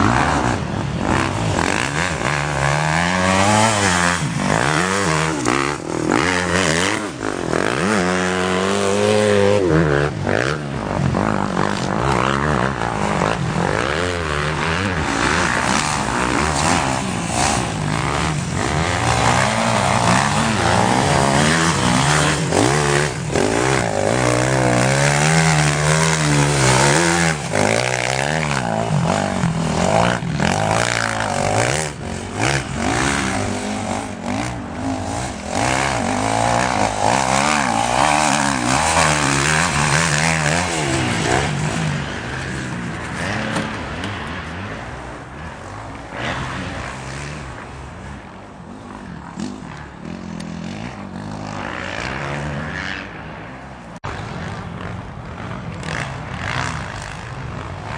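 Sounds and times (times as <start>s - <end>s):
motocross bike engines revving: 0.0s - 57.9s.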